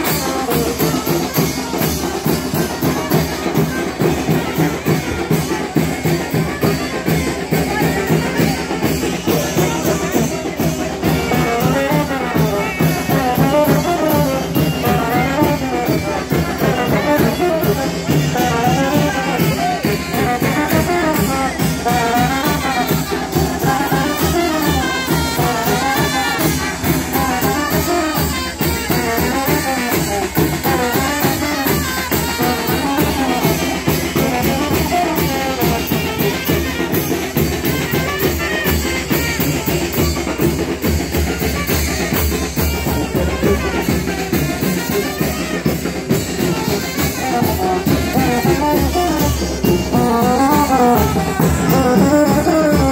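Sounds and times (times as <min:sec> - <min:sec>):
driving drum beat: 0:00.0 - 0:52.9
trumpets and trombones melody: 0:00.0 - 0:52.9.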